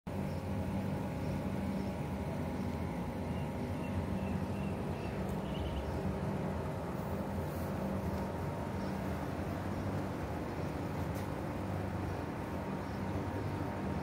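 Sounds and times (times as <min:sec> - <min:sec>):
air conditioner units humming: 0:00.1 - 0:14.0.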